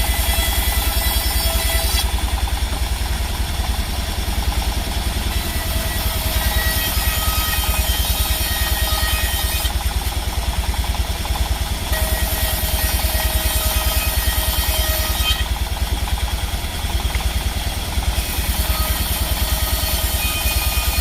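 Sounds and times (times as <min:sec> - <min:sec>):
sawmill machinery throbbing: 0:00.0 - 0:21.0.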